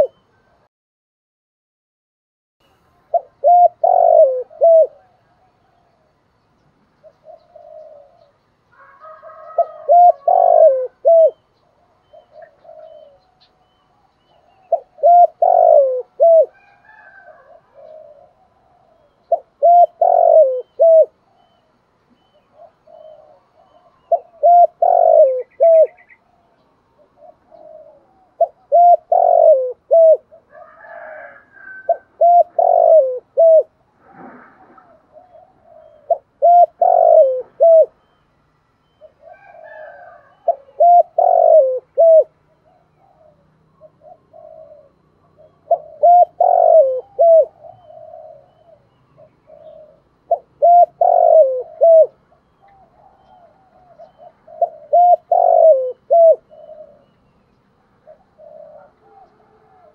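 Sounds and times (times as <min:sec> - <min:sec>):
dove cooing: 0:00.0 - 0:00.7, 0:02.9 - 0:06.2, 0:07.0 - 0:38.2, 0:38.8 - 0:59.9.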